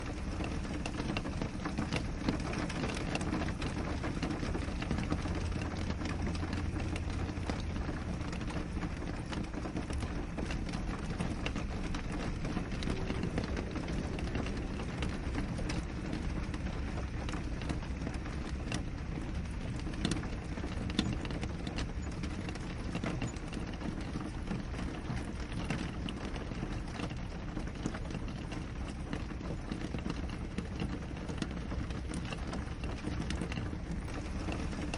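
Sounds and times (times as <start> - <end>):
rain on a window: 0.0 - 34.9.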